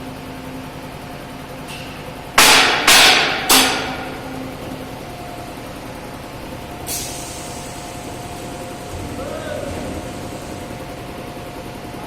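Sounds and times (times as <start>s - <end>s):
workshop hum: 0.0s - 12.0s.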